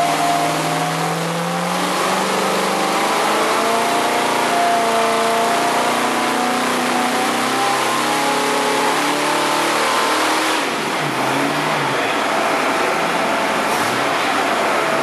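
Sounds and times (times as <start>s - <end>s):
engine running on dyno: 0.0s - 15.0s.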